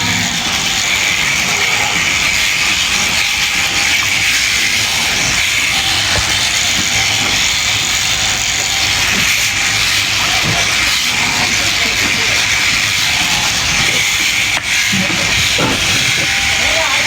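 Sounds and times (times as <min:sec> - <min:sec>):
electric sheep shears running: 0:00.0 - 0:17.0.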